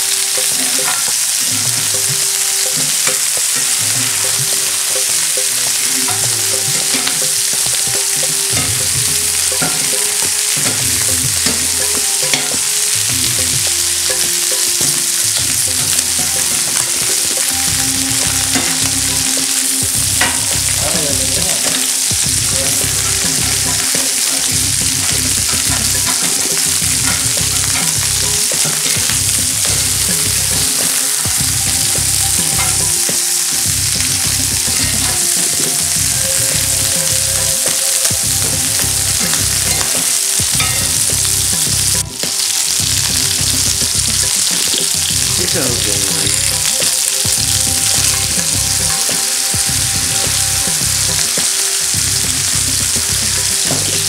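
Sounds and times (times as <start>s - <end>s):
chicken sizzling in hot oil: 0.0s - 54.0s
metal spatula scraping pan: 0.1s - 45.4s.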